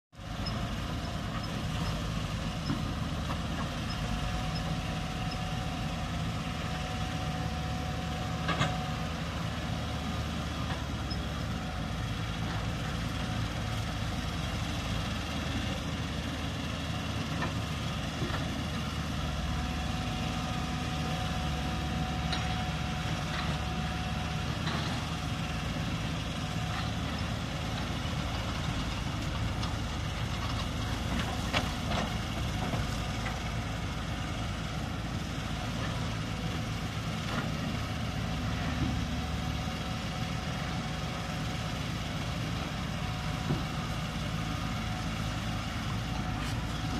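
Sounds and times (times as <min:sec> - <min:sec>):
diesel excavator engine running: 0:00.2 - 0:46.9.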